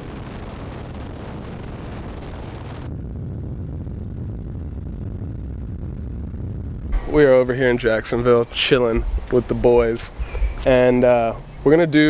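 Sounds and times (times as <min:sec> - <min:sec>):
wind rush: 0:00.0 - 0:12.0.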